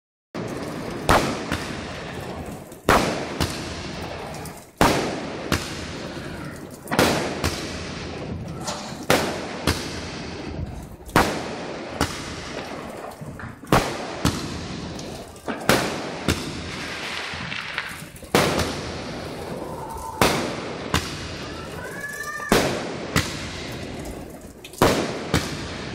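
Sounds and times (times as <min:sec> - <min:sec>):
fireworks bangs: 0:00.4 - 0:25.9.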